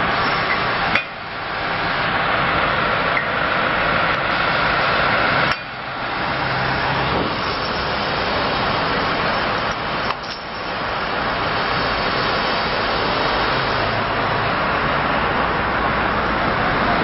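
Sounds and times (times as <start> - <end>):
diesel truck engine running: 0.0 - 17.0
street noise: 0.0 - 17.0.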